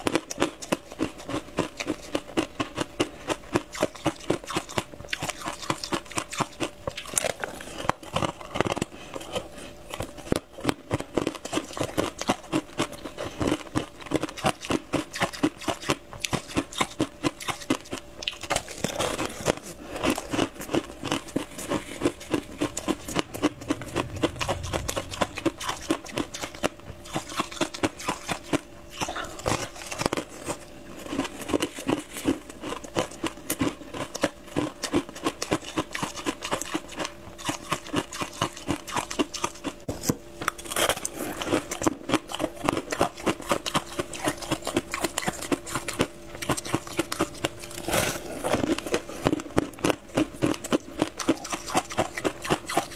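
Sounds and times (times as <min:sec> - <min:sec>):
crunchy chewing of pastry: 0:00.0 - 0:52.9.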